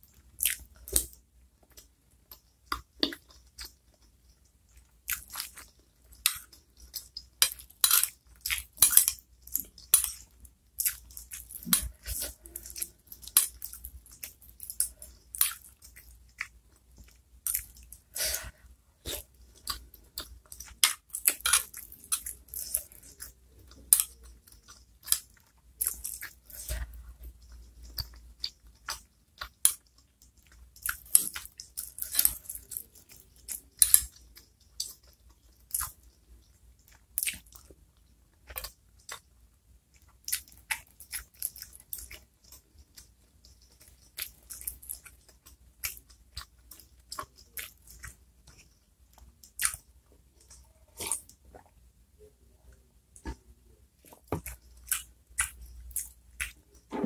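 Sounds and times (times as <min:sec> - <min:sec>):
close-miked chewing: 0:00.1 - 0:57.0.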